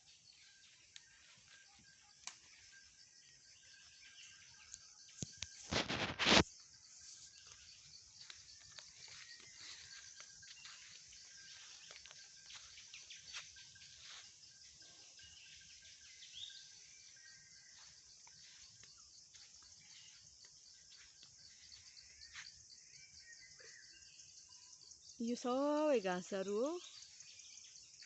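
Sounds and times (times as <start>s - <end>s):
bird chirp: 0.0s - 5.8s, 6.4s - 28.0s.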